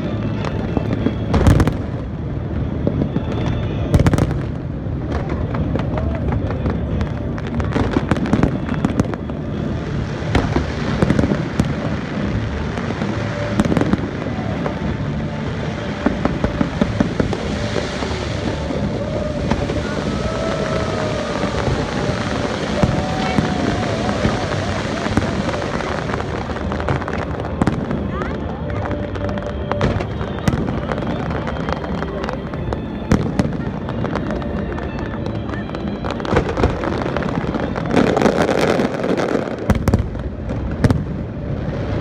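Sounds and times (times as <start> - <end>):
crowd hubbub: 0.0 - 42.0
fireworks bangs and crackling: 0.0 - 42.0.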